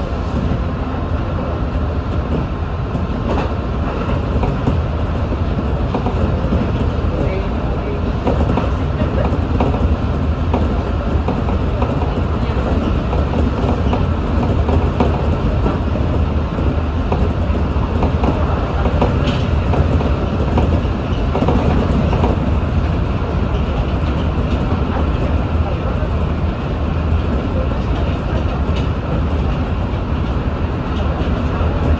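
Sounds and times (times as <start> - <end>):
train wheels rumbling on track: 0.0 - 31.9.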